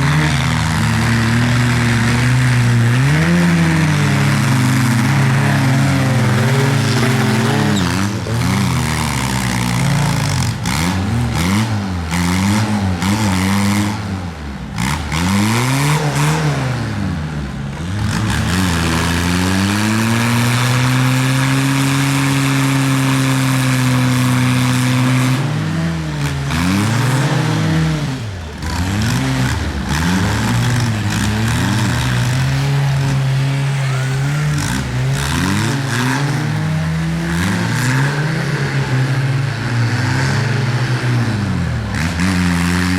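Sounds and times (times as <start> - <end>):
tractor engine revving: 0.0 - 42.9.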